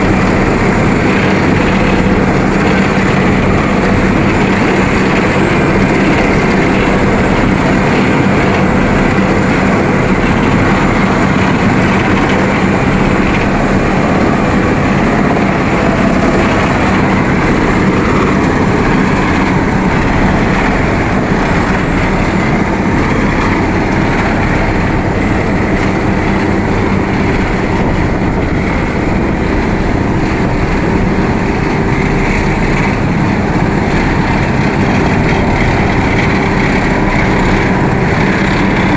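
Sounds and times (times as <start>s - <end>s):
asphalt paver droning: 0.0s - 38.9s.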